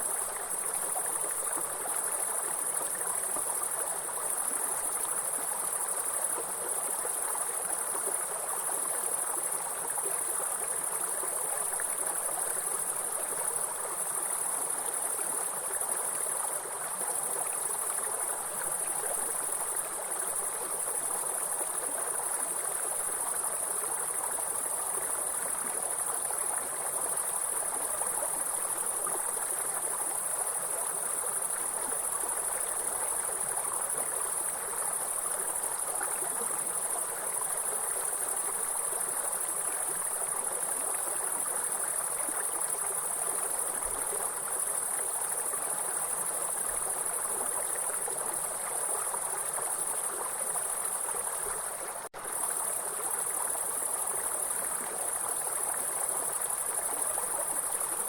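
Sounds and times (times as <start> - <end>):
high-pitched insect chorus: 0.0 - 58.0
stream water flowing: 0.0 - 58.0.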